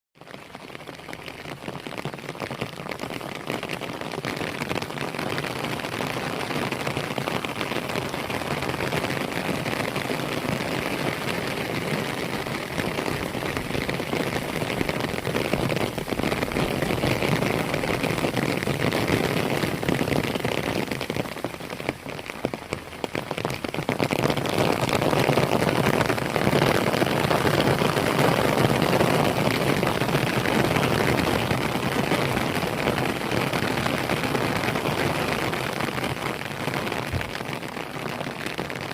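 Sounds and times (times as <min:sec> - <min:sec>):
pattering of falling water: 0:00.2 - 0:38.9.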